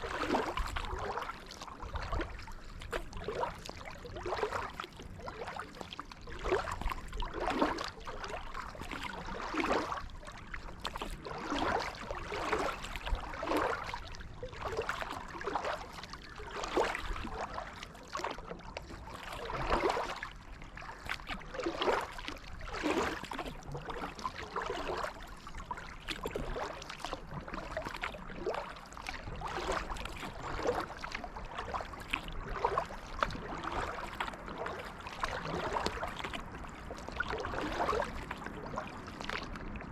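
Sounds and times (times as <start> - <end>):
paddle strokes splashing in water: 0.0 - 39.9.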